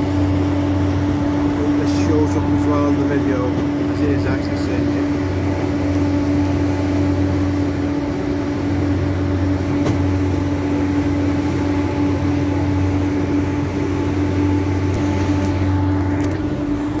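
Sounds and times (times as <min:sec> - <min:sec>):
train engine drone: 0:00.0 - 0:17.0.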